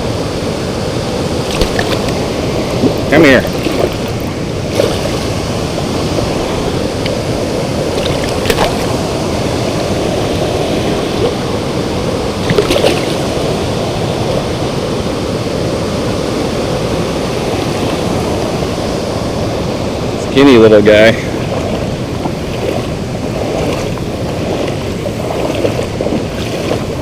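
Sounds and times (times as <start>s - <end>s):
river water rushing over spillway: 0.0s - 27.0s.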